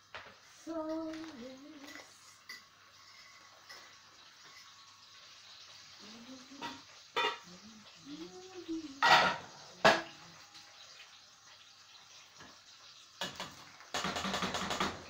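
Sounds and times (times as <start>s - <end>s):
dishes and pots clattering: 0.2s - 8.0s, 8.8s - 11.2s, 12.0s - 15.0s.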